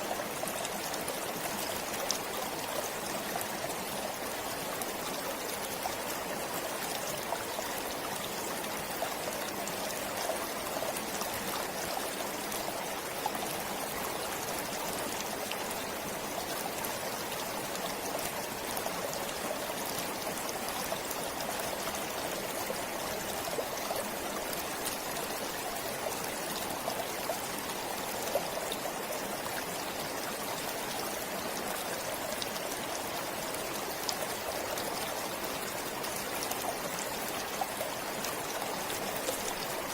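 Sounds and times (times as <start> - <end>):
forest stream babbling: 0.0 - 39.9.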